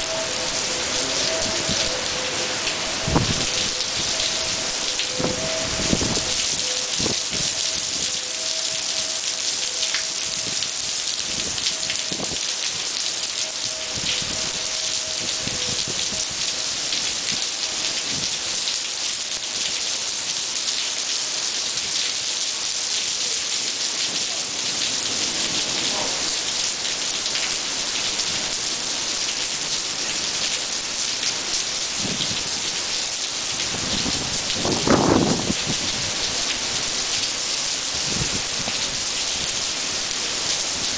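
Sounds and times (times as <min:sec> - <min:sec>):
heavy rain on paving: 0:00.0 - 0:40.9.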